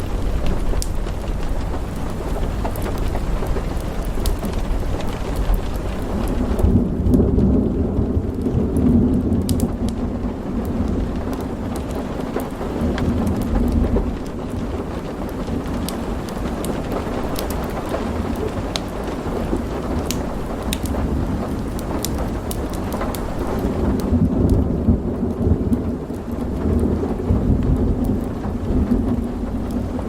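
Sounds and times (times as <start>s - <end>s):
fireplace crackles: 0.0s - 30.0s
steady rain: 0.0s - 30.0s
thunder rolling: 0.0s - 30.0s.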